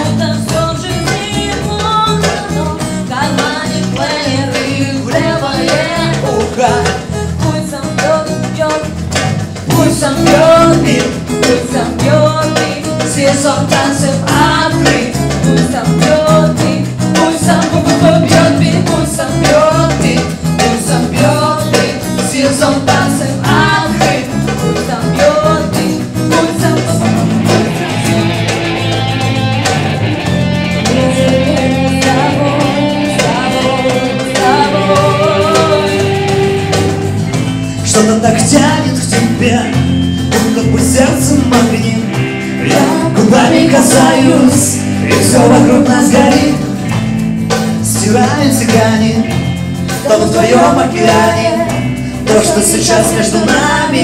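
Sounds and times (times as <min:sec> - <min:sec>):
person singing: 0:00.0 - 0:29.3, 0:30.4 - 0:37.1, 0:37.8 - 0:46.9, 0:47.8 - 0:54.0
acoustic guitar: 0:00.0 - 0:54.0.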